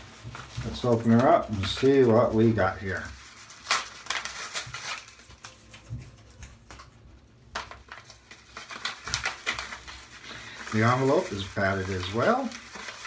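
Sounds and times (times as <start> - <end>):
envelope rustling and crinkling: 0.0 - 13.0.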